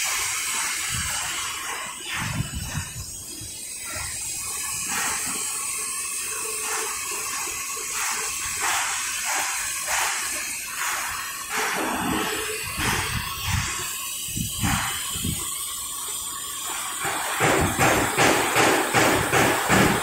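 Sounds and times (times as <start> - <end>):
welding machine hissing: 0.0 - 20.0.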